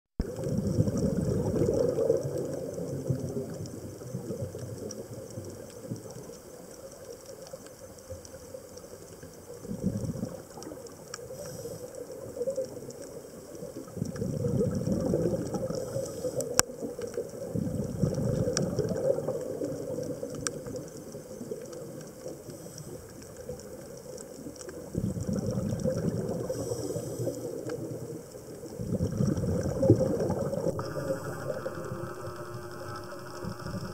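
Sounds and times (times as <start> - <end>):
underwater exhaled bubbles: 0.2 - 33.9.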